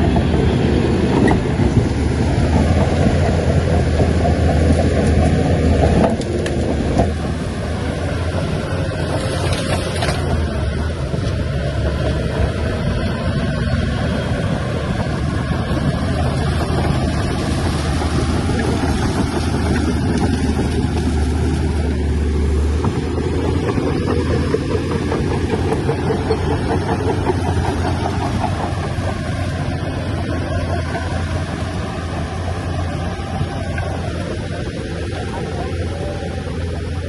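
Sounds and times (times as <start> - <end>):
bulldozer diesel engine droning: 0.0 - 37.0.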